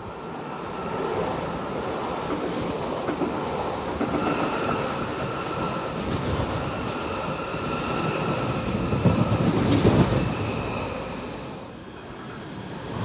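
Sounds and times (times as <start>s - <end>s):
train wheels rumbling on rails: 0.4s - 13.0s.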